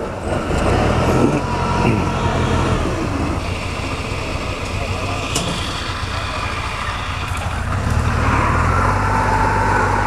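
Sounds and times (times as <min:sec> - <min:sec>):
tracked vehicle engine running: 0:00.0 - 0:10.0
high-pitched whine: 0:01.1 - 0:10.0.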